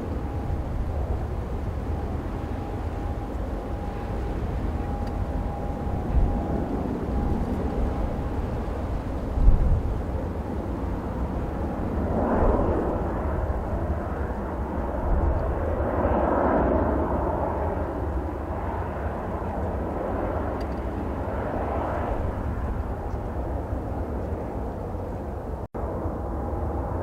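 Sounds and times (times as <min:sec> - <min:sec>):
jet engines running: 0:00.0 - 0:27.0
wind buffeting microphone: 0:00.0 - 0:27.0.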